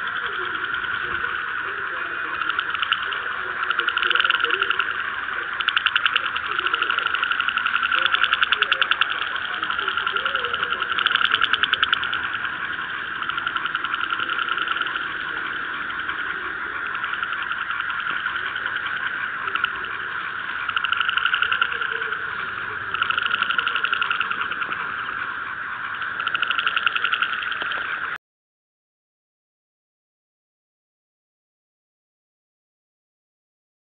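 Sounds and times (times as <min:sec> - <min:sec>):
frogs calling: 0:00.0 - 0:28.2.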